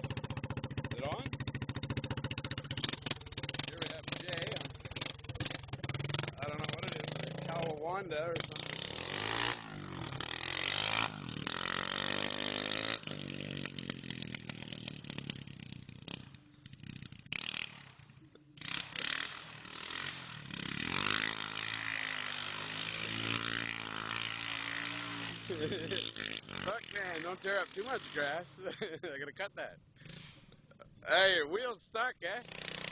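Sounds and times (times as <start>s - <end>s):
motorcycle engine revving: 0.0s - 31.1s, 32.4s - 32.9s.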